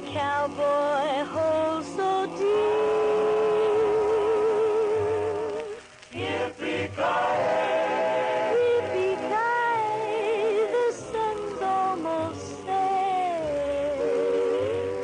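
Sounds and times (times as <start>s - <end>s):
vocal group harmony singing: 0.1s - 15.0s.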